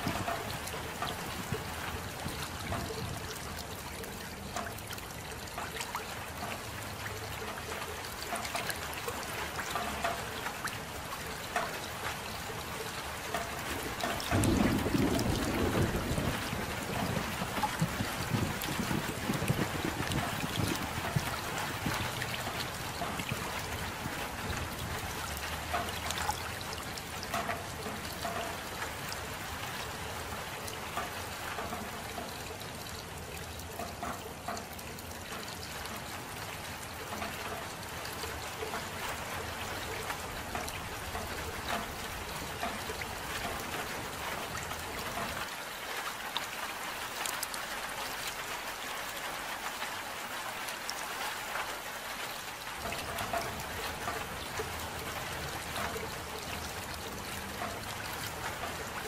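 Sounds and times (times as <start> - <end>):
close drips and patters: 0.0 - 59.0
steady rain falling: 0.0 - 59.0.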